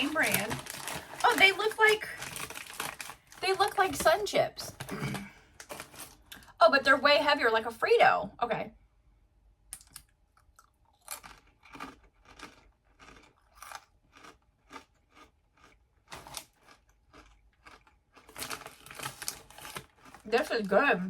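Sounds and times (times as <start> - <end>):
crunching corn chips: 0.0 - 4.2, 4.8 - 6.4, 9.8 - 20.8.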